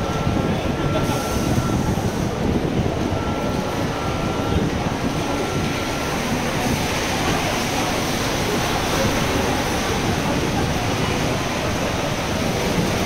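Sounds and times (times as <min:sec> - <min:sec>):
heavy rain on street: 0:00.0 - 0:13.0.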